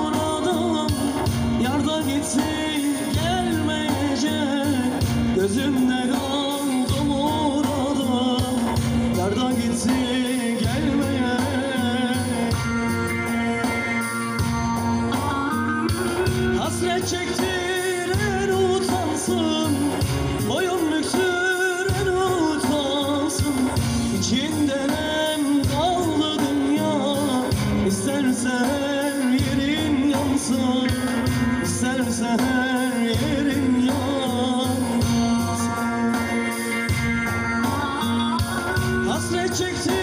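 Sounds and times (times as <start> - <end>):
live band playing folk music: 0.0 - 40.0.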